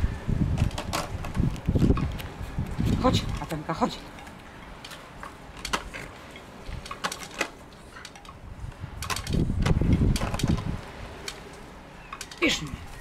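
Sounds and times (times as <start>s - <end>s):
light clicks and rustles: 0.5s - 13.0s.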